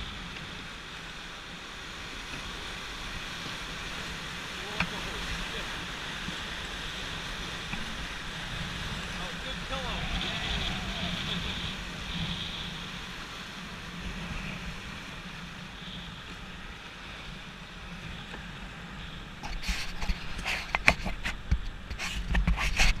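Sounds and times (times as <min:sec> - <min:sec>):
rushing whitewater: 0:00.0 - 0:21.2.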